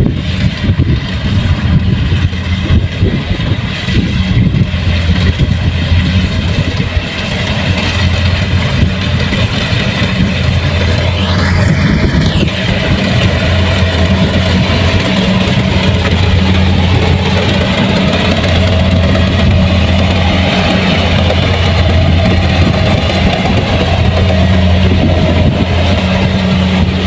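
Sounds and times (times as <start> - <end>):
combine harvester diesel engine: 0.0 - 27.0.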